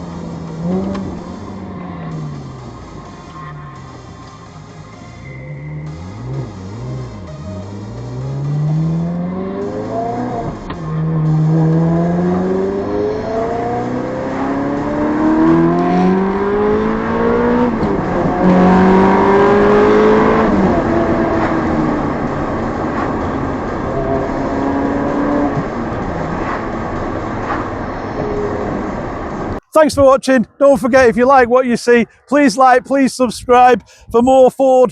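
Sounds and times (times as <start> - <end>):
car engine accelerating through gears: 0.0 - 29.6.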